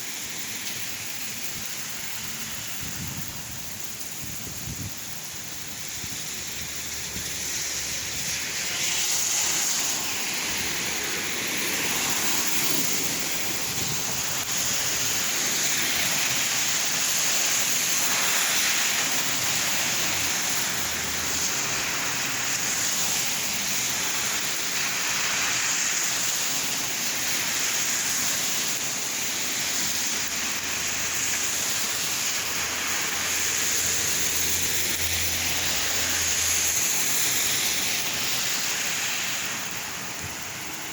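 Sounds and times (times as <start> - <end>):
rain falling and splashing: 0.1 - 40.9.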